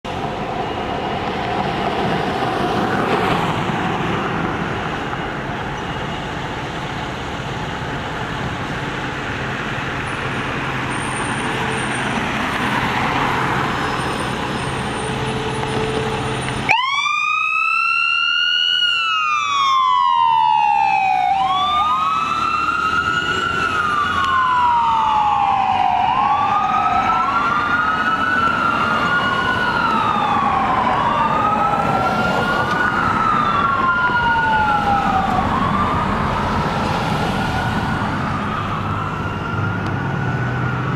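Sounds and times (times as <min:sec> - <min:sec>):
sirens wailing: 0:00.1 - 0:40.9.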